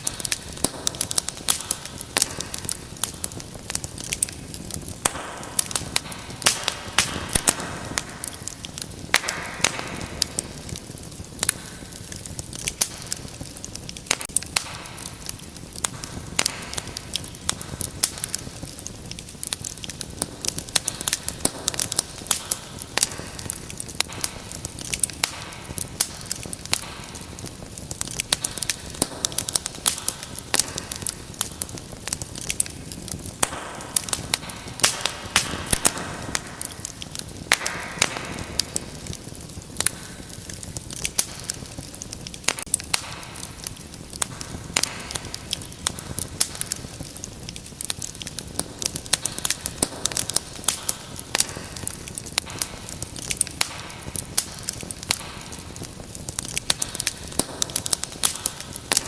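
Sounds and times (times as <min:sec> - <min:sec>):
fire hissing: 0:00.0 - 0:59.0
wood fire crackling and popping: 0:00.0 - 0:59.0.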